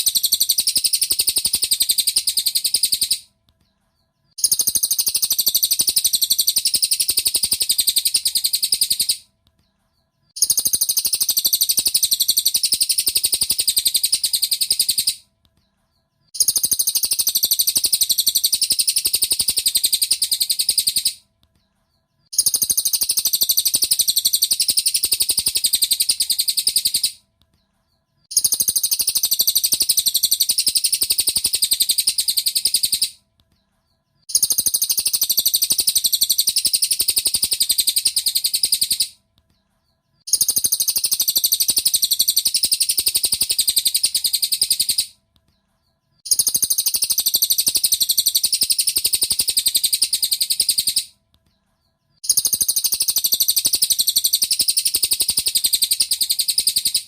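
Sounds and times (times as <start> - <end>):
fast high-pitched bird trill: 0.0 - 3.3, 4.3 - 9.3, 10.3 - 15.3, 16.2 - 21.2, 22.2 - 27.2, 28.2 - 33.2, 34.2 - 39.2, 40.2 - 45.2, 46.2 - 51.1, 52.2 - 57.0.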